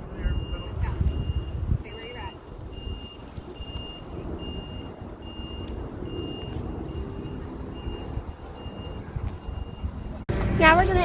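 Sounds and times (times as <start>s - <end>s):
reversing alarm beeping: 0.2s - 10.2s.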